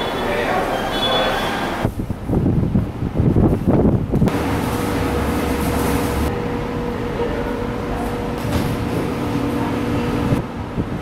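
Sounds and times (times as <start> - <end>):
station mechanical hum: 0.0 - 11.0.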